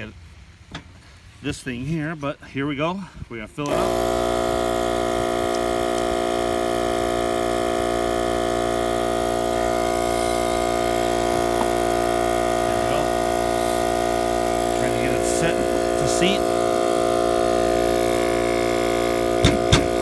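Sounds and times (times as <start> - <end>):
small air compressor running: 3.7 - 20.0.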